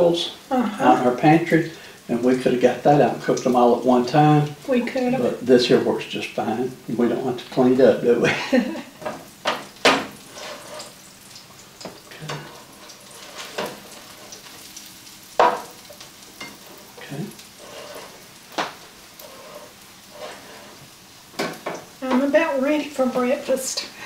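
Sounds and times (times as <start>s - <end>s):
pancake batter sizzling: 0.0s - 24.0s.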